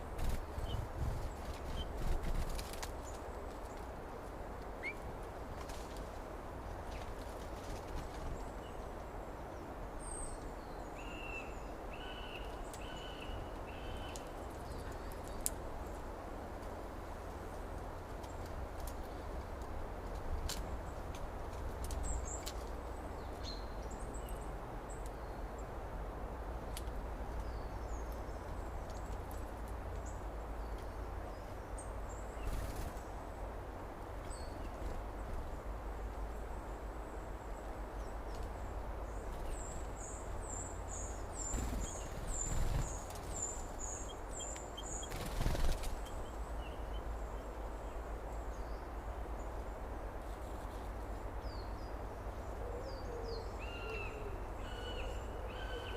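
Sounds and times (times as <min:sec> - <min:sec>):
low rumble and hiss: 0:00.0 - 0:55.9.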